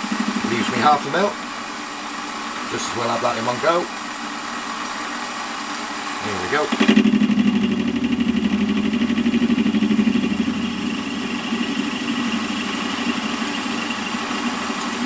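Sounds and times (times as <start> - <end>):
lathe running: 0.0 - 15.0.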